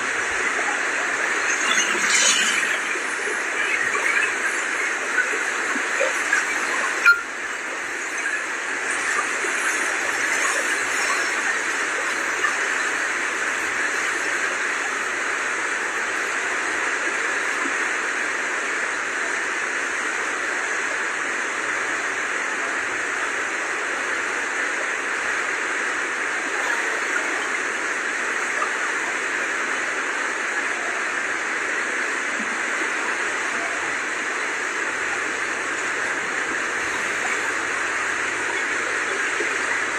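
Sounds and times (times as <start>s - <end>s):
floodwater rushing: 0.0s - 18.2s, 25.1s - 39.9s.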